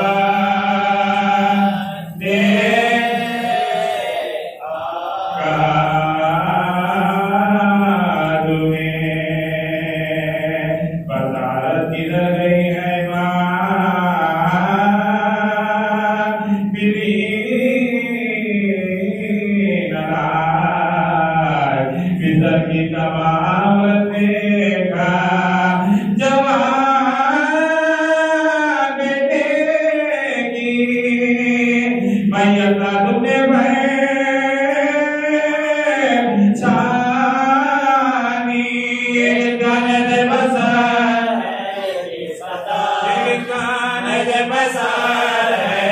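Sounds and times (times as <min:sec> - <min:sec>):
man chanting into microphone: 0:00.0 - 0:45.9.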